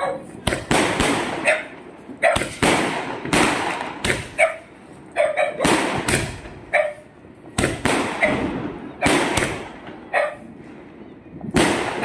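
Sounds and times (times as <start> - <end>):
firecrackers banging: 0.3 - 12.0.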